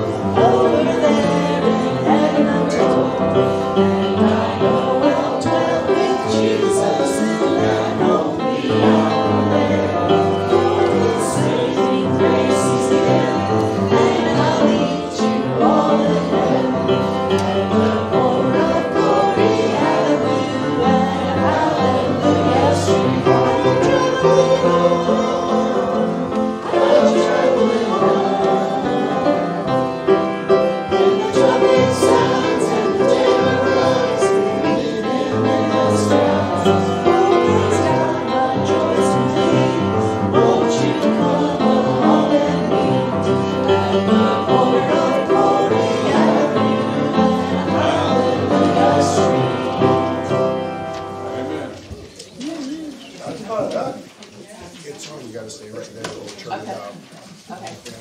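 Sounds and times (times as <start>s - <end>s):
instrumental accompaniment: 0.0s - 52.0s
voices singing worship song: 0.0s - 56.2s.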